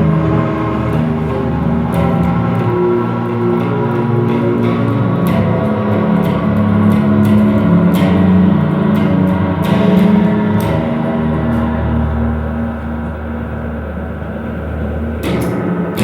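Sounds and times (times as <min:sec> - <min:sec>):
deep low hum: 0:00.0 - 0:16.0
droning experimental music: 0:00.0 - 0:16.0.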